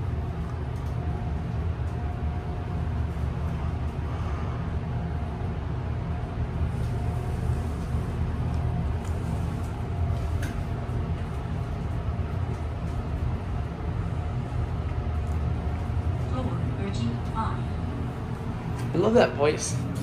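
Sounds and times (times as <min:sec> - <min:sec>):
elevator rumbling: 0:00.0 - 0:20.0
faint steady whine: 0:00.0 - 0:20.0.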